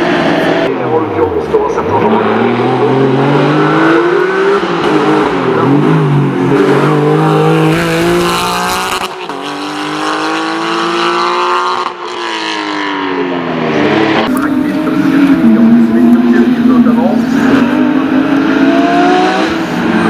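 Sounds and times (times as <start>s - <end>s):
racing car engine accelerating: 2.0s - 20.0s.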